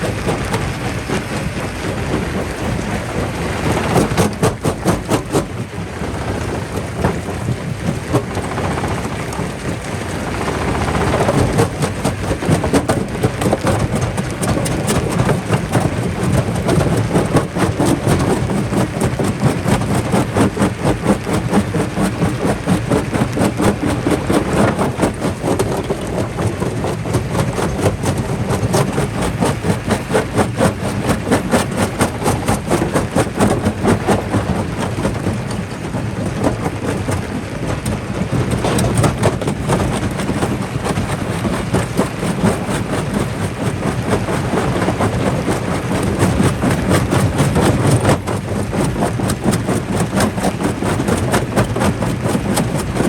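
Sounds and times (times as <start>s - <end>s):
low machine rumble: 0.0s - 53.0s
rock crusher clattering: 0.1s - 53.0s.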